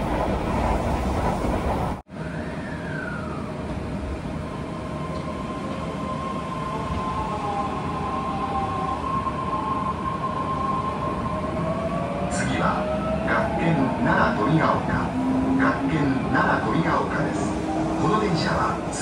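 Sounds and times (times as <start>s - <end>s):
subway car running rumble: 0.0s - 19.0s.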